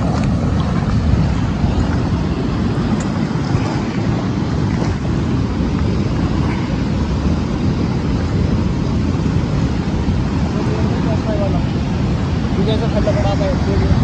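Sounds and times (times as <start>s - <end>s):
fast-flowing water roar: 0.0s - 14.0s
wind buffeting microphone: 0.0s - 14.0s.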